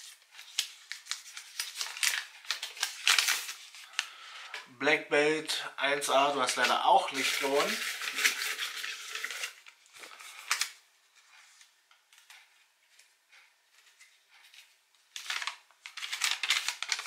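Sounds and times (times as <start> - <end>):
paper rustling: 0.0 - 4.6, 6.1 - 13.1, 13.7 - 17.0.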